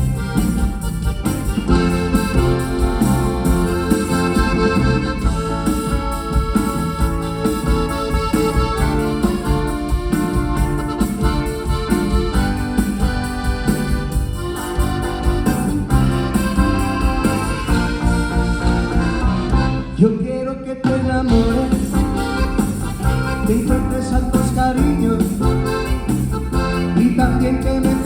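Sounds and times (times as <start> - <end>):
live band playing: 0.0 - 20.2, 20.8 - 28.0
organ-like electronic keyboard: 0.0 - 20.2, 21.2 - 28.0.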